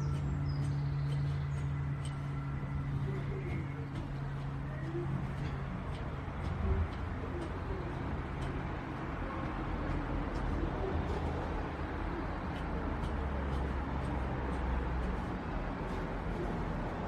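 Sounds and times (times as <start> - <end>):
light ticks: 0.0 - 16.6
low outdoor rumble: 0.0 - 17.0.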